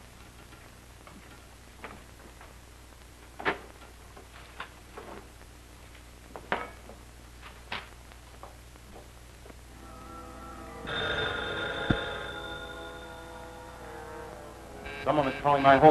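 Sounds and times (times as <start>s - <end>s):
low film soundtrack hum: 0.0s - 15.9s.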